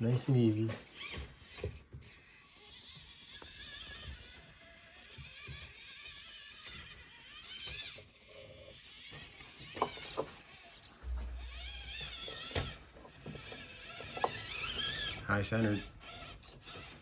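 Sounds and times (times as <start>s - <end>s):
rc car motor whining: 0.0s - 17.0s.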